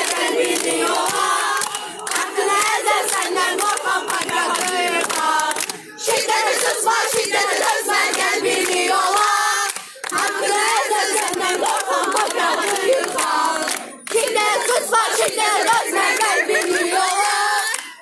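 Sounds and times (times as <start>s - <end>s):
crowd chanting slogans: 0.0s - 17.8s.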